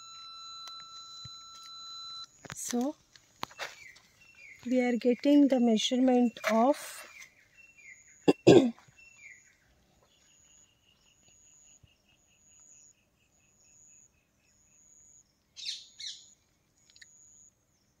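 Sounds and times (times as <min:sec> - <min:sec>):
birds chirping: 0:03.4 - 0:18.0.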